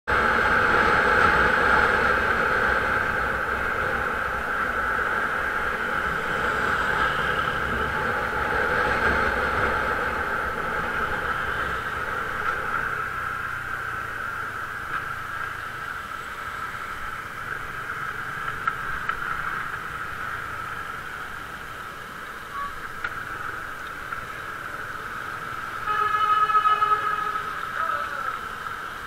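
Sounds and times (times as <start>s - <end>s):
road rumble: 0.0s - 29.0s
constant high whine: 0.1s - 29.0s.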